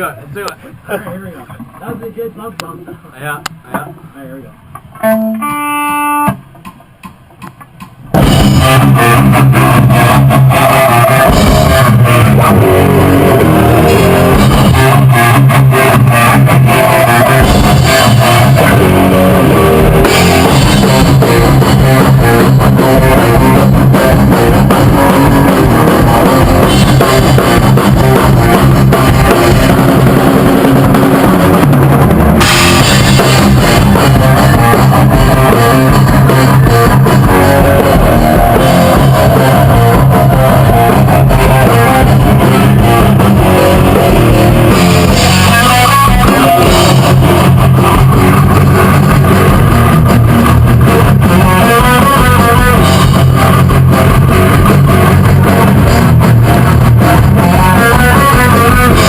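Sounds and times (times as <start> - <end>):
rock band playing: 4.8 - 59.0.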